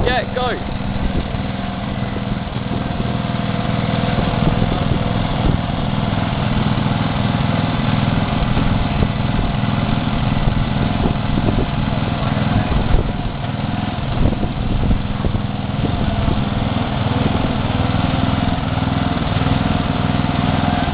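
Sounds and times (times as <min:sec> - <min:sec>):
small engine running: 0:00.0 - 0:20.9.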